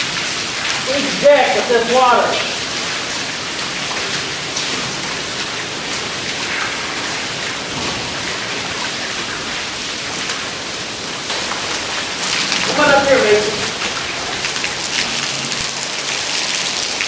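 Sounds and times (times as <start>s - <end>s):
water splashing onto a deck: 0.0s - 17.0s.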